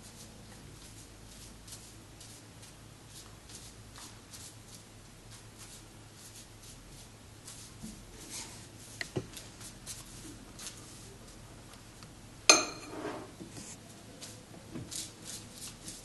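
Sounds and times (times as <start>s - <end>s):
brush swishing on paper: 0.0s - 11.4s, 12.9s - 16.0s.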